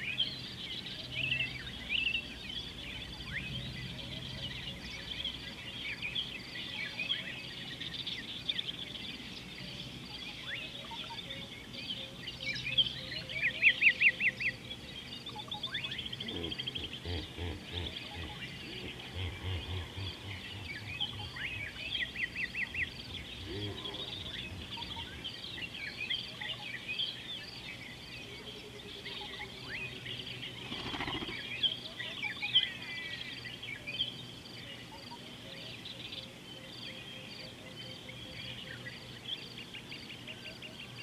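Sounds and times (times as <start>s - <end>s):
bush ambience: 0.0s - 35.1s
birds chirping and calling: 0.0s - 41.0s.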